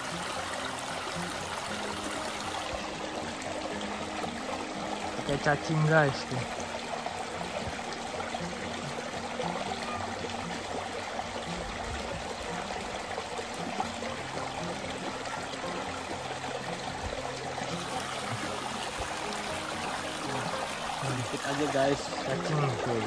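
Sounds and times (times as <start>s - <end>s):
river flowing: 0.0s - 23.0s.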